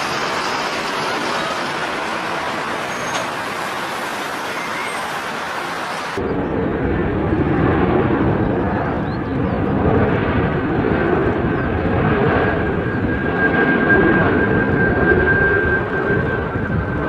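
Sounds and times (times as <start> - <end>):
aircraft engines: 0.0 - 17.0.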